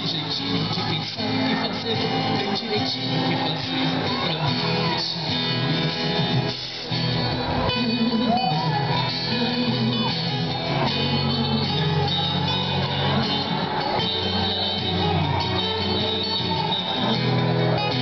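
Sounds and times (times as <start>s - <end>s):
man singing through microphone: 0.0s - 18.0s
strummed acoustic guitars: 0.0s - 18.0s.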